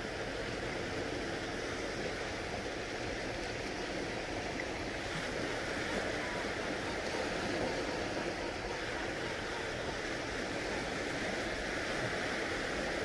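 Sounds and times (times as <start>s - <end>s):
small waves washing onto shore: 0.0s - 13.0s.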